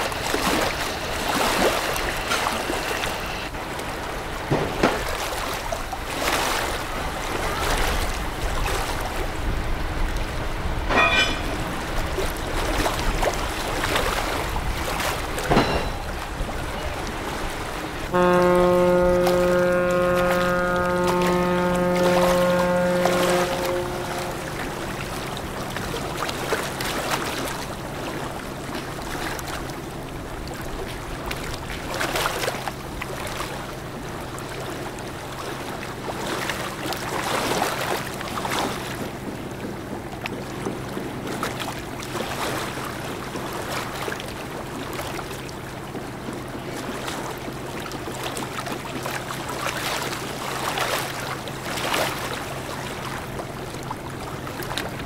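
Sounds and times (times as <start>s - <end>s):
rushing water: 0.0s - 55.0s
ship engines droning: 0.0s - 55.0s
wind: 0.0s - 55.0s.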